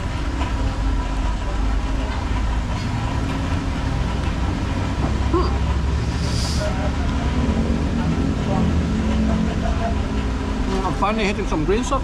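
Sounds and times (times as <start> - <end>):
road traffic rumble: 0.0 - 12.0
vehicle running nearby: 0.0 - 12.0.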